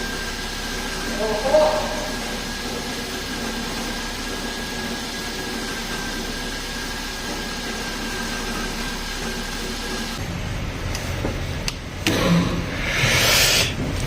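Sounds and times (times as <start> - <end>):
car engine whine: 0.0 - 14.0
noisy idler pulleys: 0.0 - 14.0.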